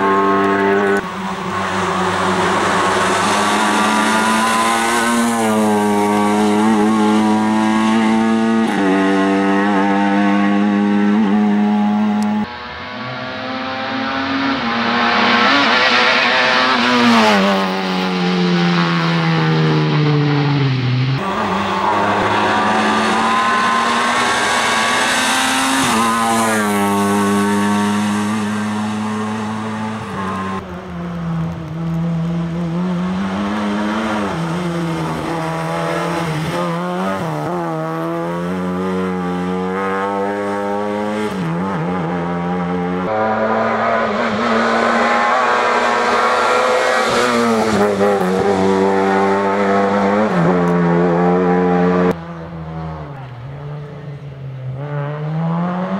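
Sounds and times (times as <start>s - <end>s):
rally car engine revving: 0.0s - 55.9s.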